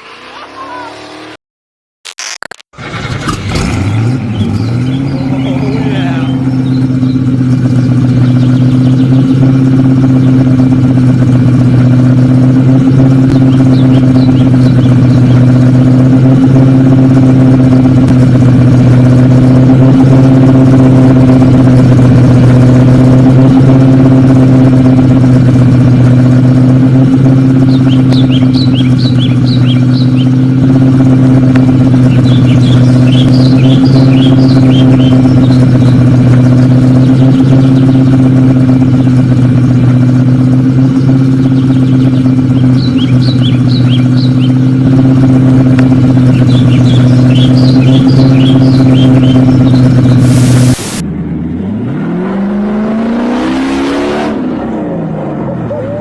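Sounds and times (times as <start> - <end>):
car engine running steadily: 2.8 - 52.2.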